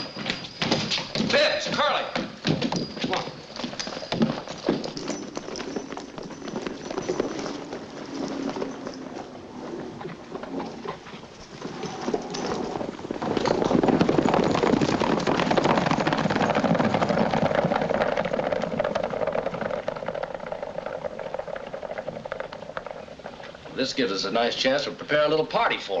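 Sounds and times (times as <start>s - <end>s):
hoofbeats galloping on dirt: 0.0s - 26.0s.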